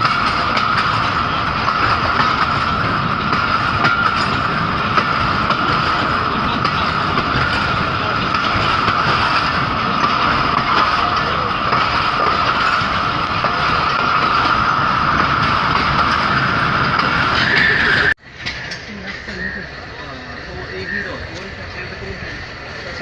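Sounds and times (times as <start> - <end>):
train wheels and carriage noise: 0.0 - 23.0.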